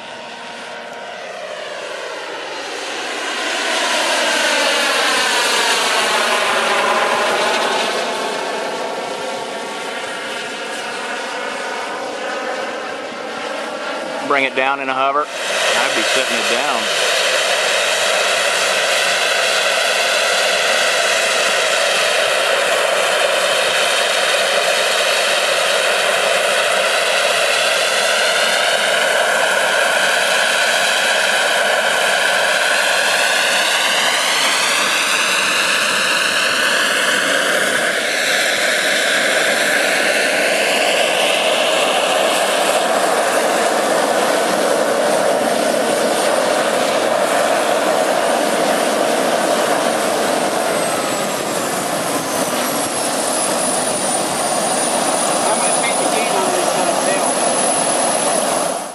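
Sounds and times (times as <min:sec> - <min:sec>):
helicopter rotor noise: 0:00.0 - 0:58.9
turbine high whine: 0:00.0 - 0:58.9.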